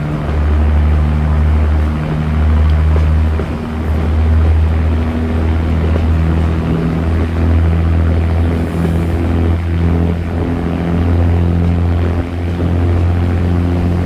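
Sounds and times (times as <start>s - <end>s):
train diesel engines throbbing: 0.0s - 14.0s
train running noise: 0.0s - 14.0s.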